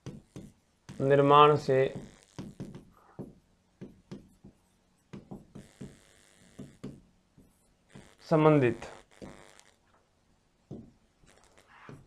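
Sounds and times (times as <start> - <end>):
stylus tapping and scratching on screen: 0.0 - 10.1, 10.7 - 12.0.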